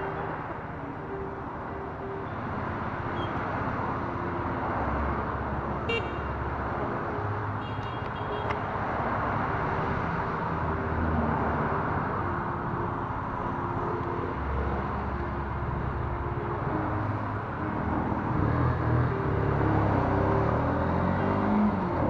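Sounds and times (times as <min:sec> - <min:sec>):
passing traffic: 0:00.0 - 0:22.0.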